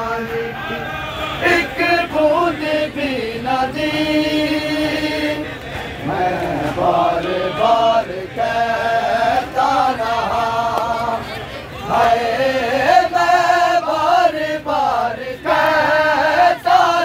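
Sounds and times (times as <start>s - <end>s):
men chanting a lament: 0.0s - 17.0s.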